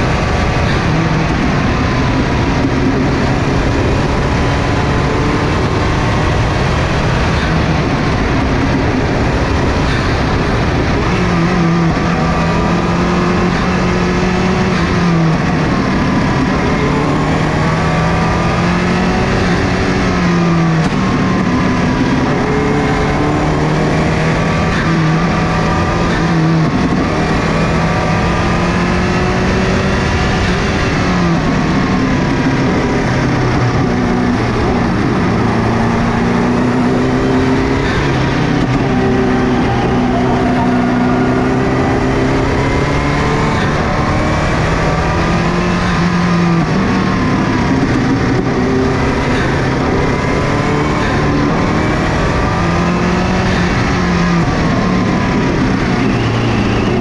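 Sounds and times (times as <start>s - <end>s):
rally car engine accelerating: 0.0s - 57.0s
road and wind noise: 0.0s - 57.0s.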